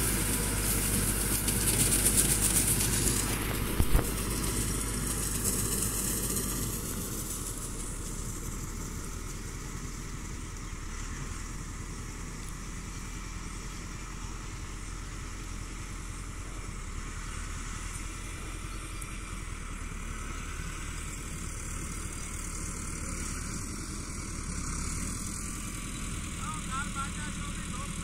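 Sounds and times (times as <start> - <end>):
tractor diesel engine droning: 0.0 - 28.0.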